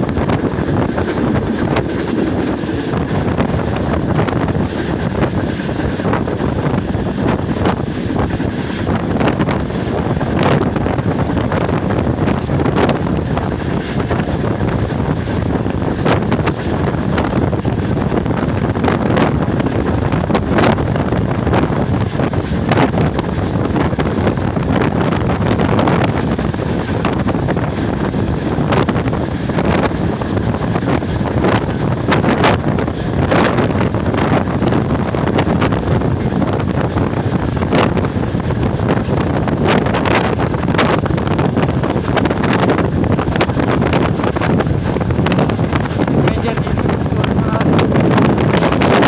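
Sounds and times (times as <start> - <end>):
train wheels rumbling on track: 0.0 - 49.0
wind on microphone: 0.0 - 49.0.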